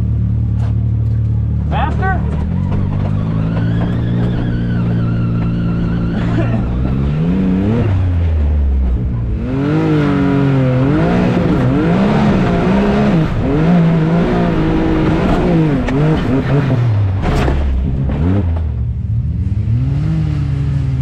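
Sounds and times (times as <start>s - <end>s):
engine revving hard: 2.0s - 8.5s, 9.3s - 18.6s, 19.2s - 21.0s.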